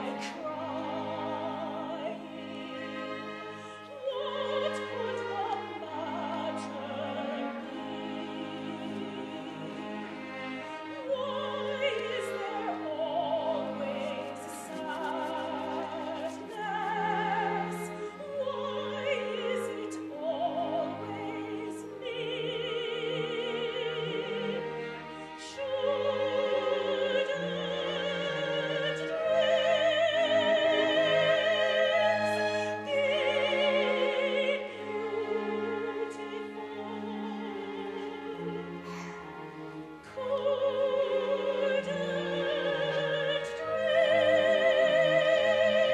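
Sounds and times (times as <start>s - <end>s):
opera singing with vibrato: 0.0s - 38.8s, 40.0s - 45.9s
orchestral accompaniment: 0.0s - 45.9s.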